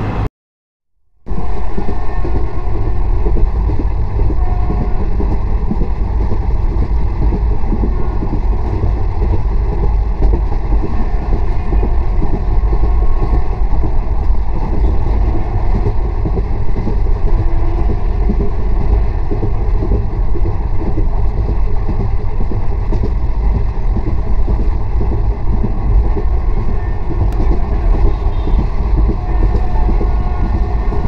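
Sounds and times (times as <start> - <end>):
train wheels rumbling on rail: 1.2 - 31.0
wind buffeting microphone: 1.3 - 31.0.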